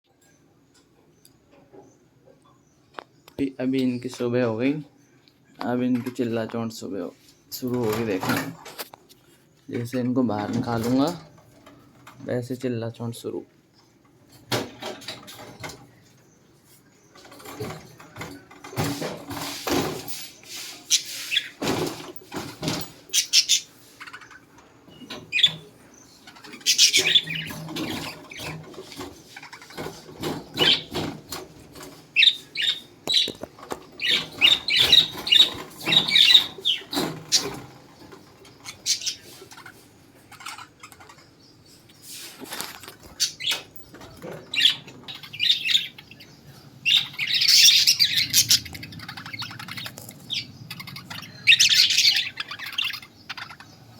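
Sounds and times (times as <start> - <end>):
lovebirds chirping and screeching: 0.1 - 53.9.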